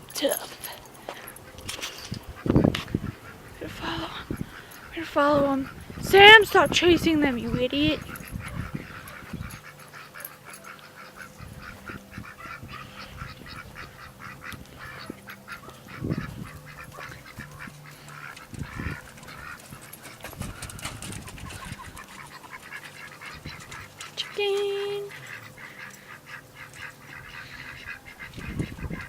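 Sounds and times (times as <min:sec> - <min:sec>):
ducks quacking: 0:00.0 - 0:29.0.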